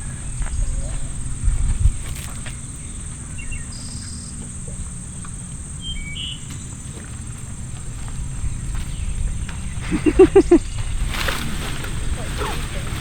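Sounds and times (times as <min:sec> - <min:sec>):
bird chirps: 0:00.0 - 0:11.4
high insect drone: 0:00.0 - 0:13.0.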